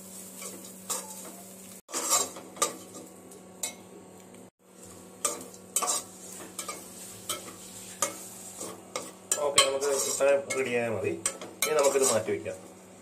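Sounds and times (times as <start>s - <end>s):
oil sizzling: 0.0s - 13.0s
metal spoon scraping a pot: 0.4s - 3.8s, 5.2s - 12.4s.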